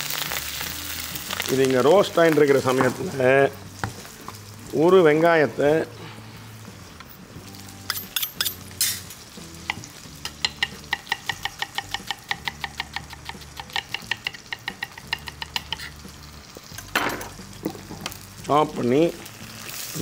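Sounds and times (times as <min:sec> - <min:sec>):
frying sizzle in oil: 0:00.0 - 0:05.0, 0:07.4 - 0:20.0.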